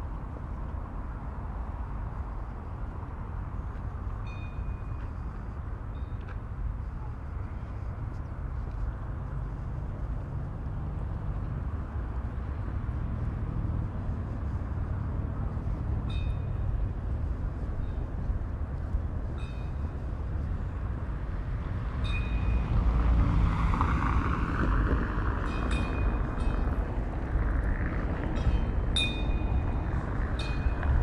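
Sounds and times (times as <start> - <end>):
traffic rumble: 0.0 - 31.0
wind rumble: 0.0 - 31.0.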